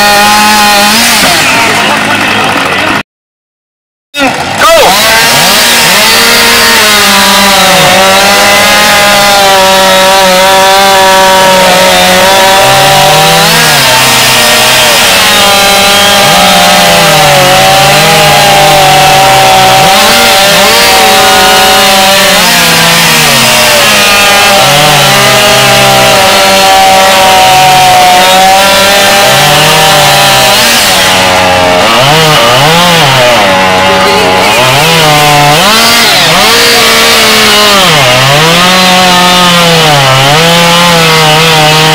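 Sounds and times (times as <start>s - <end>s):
chainsaw cutting wood: 0.0s - 3.0s, 4.2s - 41.9s.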